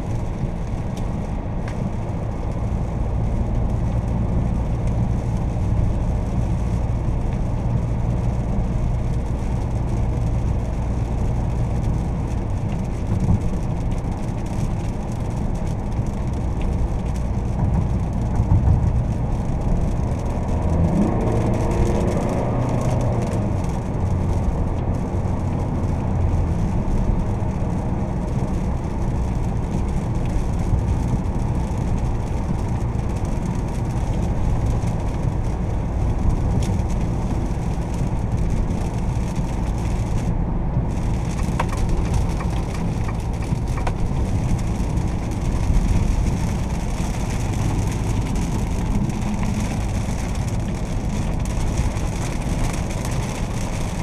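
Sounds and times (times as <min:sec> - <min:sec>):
engine hum inside vehicle: 0:00.0 - 0:54.0.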